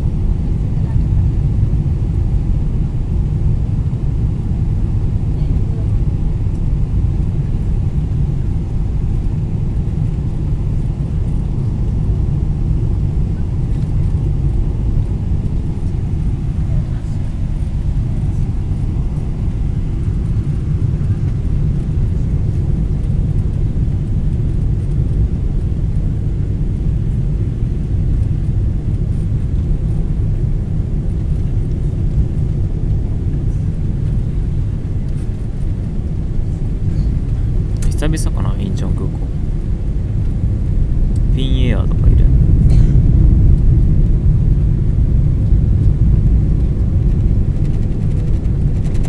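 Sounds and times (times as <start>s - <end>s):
airliner cabin rumble: 0.0s - 49.0s.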